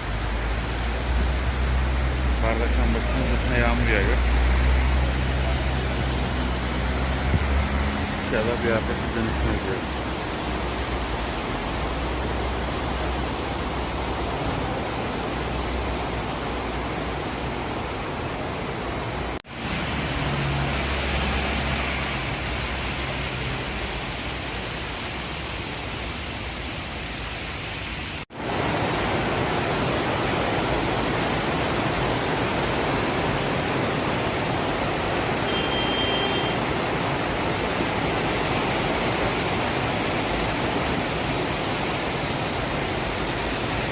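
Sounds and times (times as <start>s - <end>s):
heavy rain hissing: 0.0s - 43.9s.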